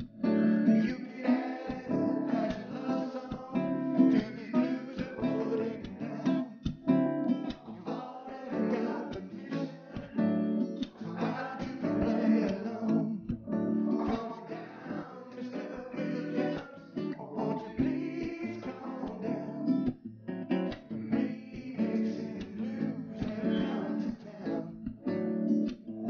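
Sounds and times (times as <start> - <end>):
acoustic guitar music: 0.0 - 26.0.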